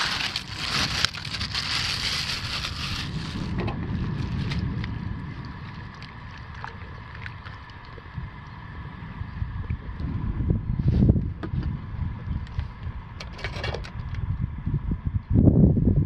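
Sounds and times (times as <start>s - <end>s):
outboard motor rumble: 0.0s - 15.4s
wind buffeting microphone: 0.0s - 16.0s.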